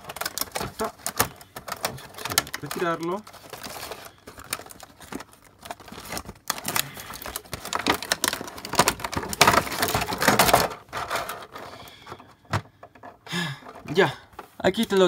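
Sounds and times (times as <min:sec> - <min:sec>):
plastic packaging crackling: 0:00.0 - 0:15.0.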